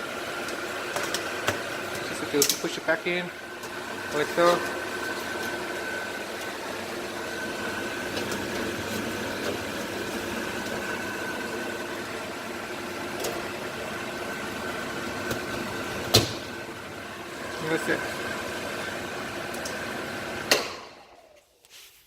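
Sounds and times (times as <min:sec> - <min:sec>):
mechanical hum with high whine: 0:00.0 - 0:21.7.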